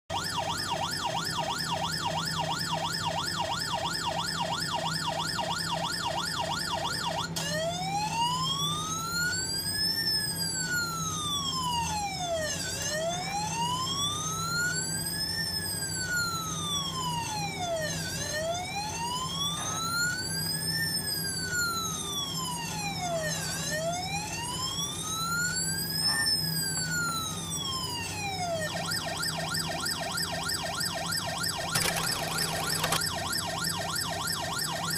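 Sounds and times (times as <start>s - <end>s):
electronic ambulance siren: 0.1s - 34.9s.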